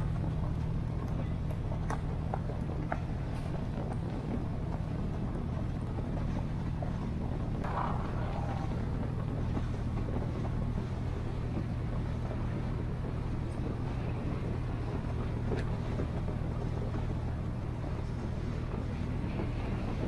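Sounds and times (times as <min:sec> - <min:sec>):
boat engine droning: 0:00.0 - 0:20.0
rushing water: 0:00.0 - 0:20.0
wind: 0:00.0 - 0:20.0.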